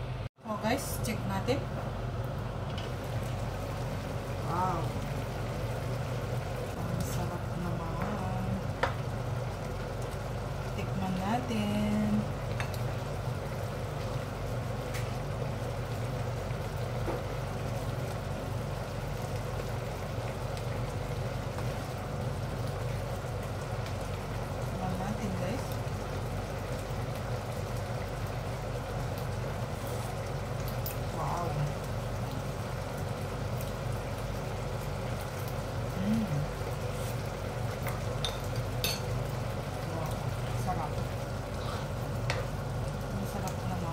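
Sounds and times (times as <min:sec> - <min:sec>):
cooktop hum: 0:00.0 - 0:43.9
stew simmering: 0:00.0 - 0:43.9.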